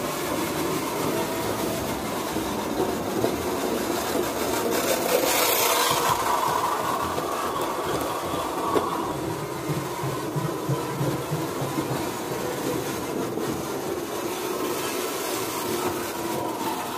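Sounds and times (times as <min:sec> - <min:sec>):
model train wheels clattering: 0:00.0 - 0:16.9.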